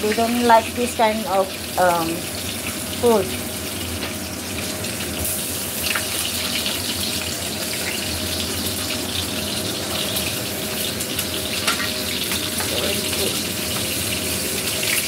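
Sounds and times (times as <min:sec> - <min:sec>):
oil sizzling and crackling: 0:00.0 - 0:15.0.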